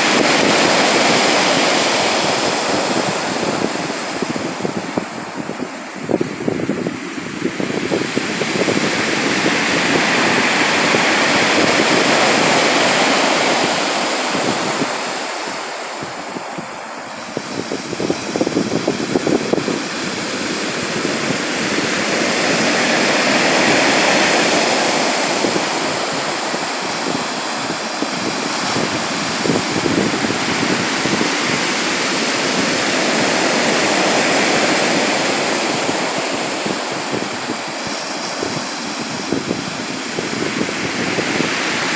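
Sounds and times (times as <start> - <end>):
sea waves breaking ashore: 0.0 - 41.9.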